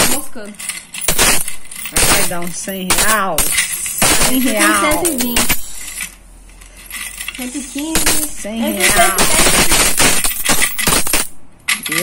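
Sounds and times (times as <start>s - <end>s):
coins clattering: 0.0s - 12.0s.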